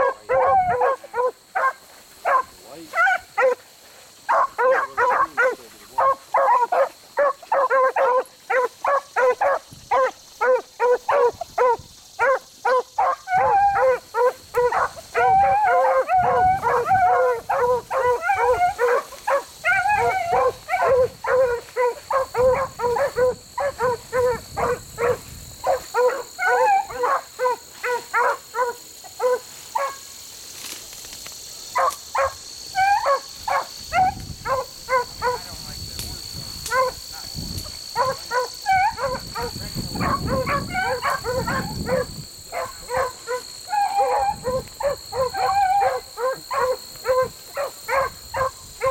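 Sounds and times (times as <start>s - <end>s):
dogs baying: 0.0s - 3.6s, 4.2s - 30.0s, 31.8s - 35.6s, 36.6s - 48.9s.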